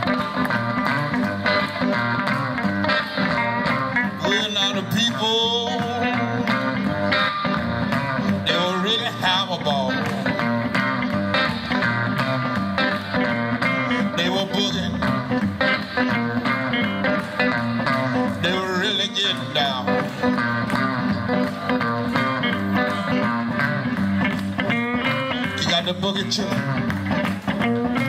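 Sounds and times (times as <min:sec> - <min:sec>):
blues on acoustic and electric guitars: 0:00.0 - 0:28.0.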